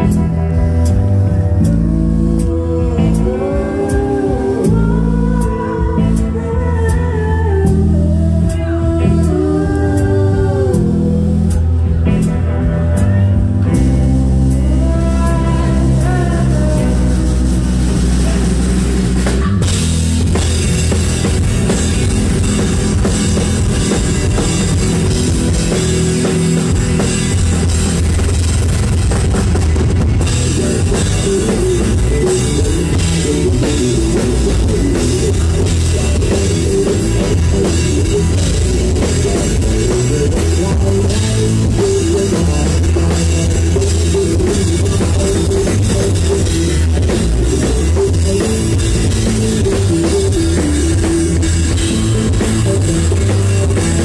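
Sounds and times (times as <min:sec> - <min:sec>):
drum kit beat: 0:00.0 - 0:54.0
live rock band playing: 0:00.0 - 0:54.0.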